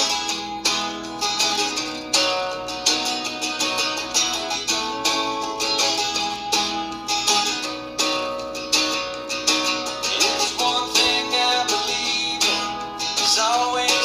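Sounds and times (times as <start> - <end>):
country song with plucked strings: 0.0 - 14.0.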